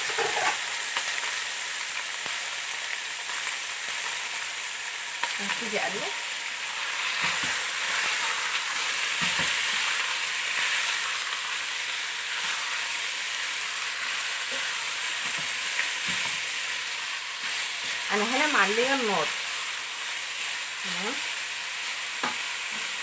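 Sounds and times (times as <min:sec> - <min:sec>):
beef sizzling in hot oil: 0:00.0 - 0:23.0.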